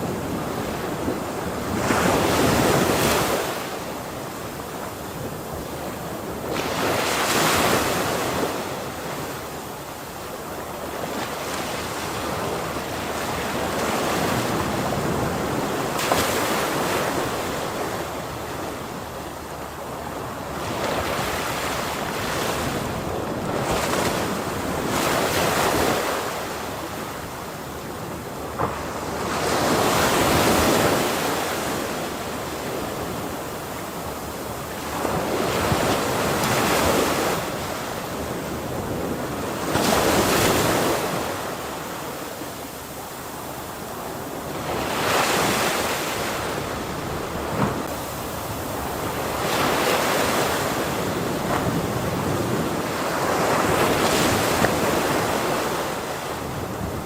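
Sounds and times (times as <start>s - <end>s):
ocean surf breaking on shore: 0.0s - 57.0s.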